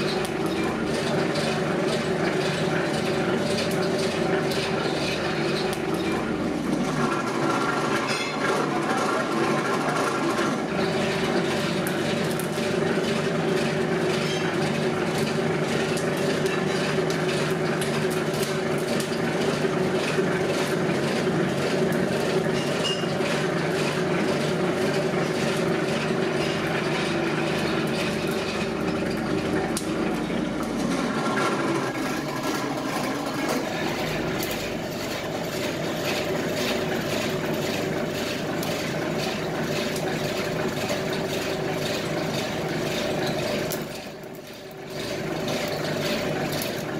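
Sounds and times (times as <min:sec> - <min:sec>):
rubber mill mechanical hum: 0:00.0 - 0:46.9.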